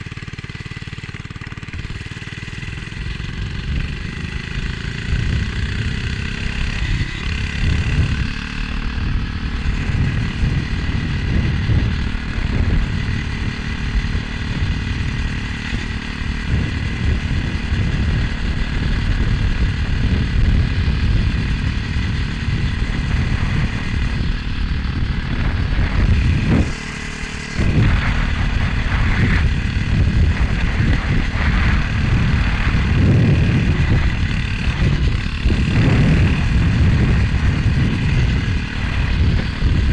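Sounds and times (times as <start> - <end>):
small engine running: 0.0 - 39.9
wind buffeting microphone: 0.0 - 39.9.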